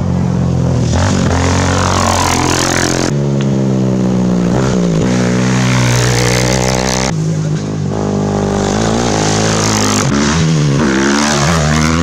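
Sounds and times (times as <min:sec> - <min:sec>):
quad bike engines revving: 0:00.0 - 0:12.0.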